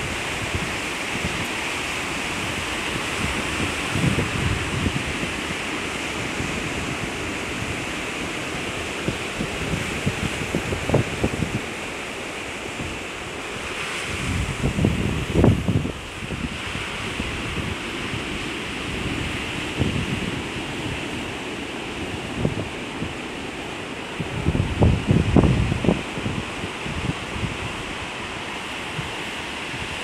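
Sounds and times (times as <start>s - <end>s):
ocean surf rushing: 0.0s - 30.0s
wind buffeting microphone: 0.0s - 30.0s.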